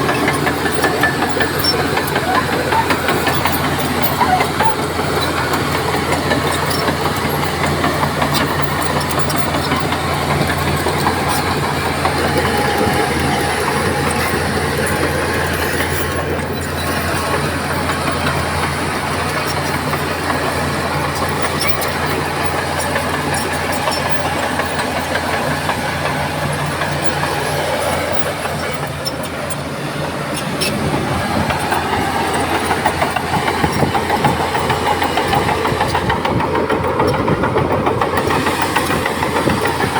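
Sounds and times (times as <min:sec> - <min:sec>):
earthmoving machinery running: 0:00.0 - 0:39.9.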